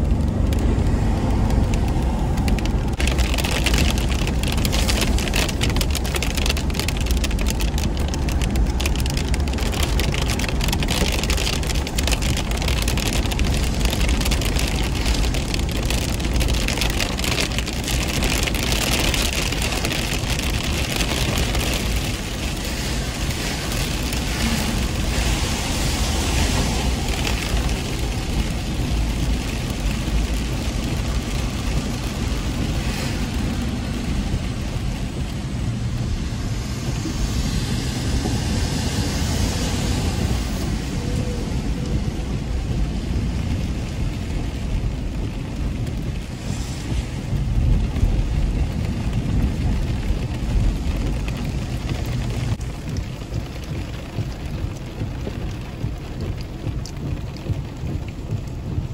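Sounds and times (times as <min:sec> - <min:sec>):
rain and wet tyres hissing: 0:00.0 - 0:58.9
road and engine rumble: 0:00.0 - 0:58.9.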